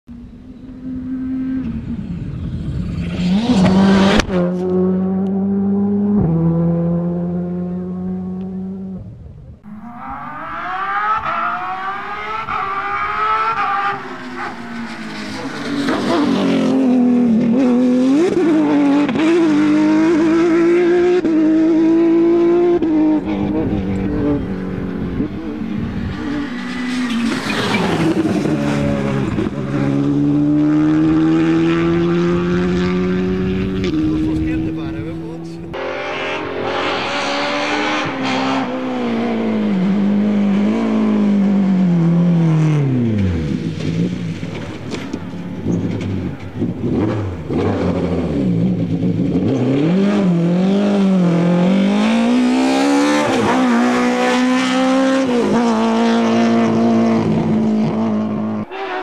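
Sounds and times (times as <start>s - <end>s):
cars passing by: 0.1s - 59.0s
rally car engines at full throttle: 0.1s - 59.0s.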